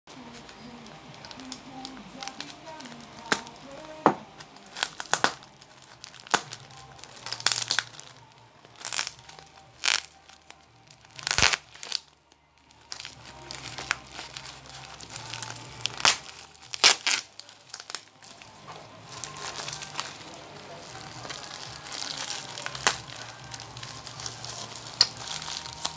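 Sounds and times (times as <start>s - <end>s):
plastic bag crinkling: 0.1s - 25.9s.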